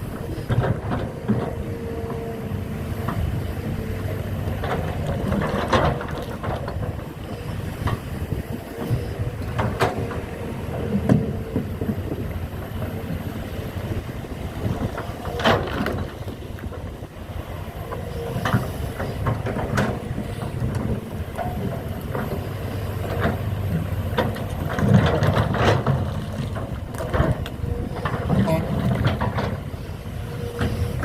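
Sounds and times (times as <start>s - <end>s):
heavy machinery knocks and clanks: 0.0s - 31.0s
low engine rumble: 0.0s - 31.0s.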